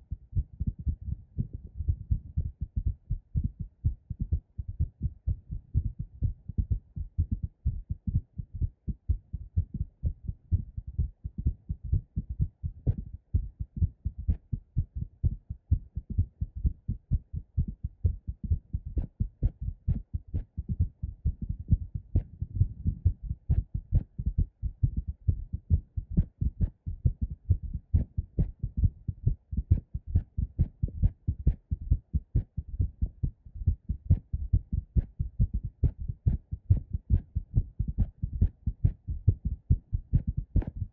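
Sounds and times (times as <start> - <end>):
pounding heartbeats: 0.1 - 40.9.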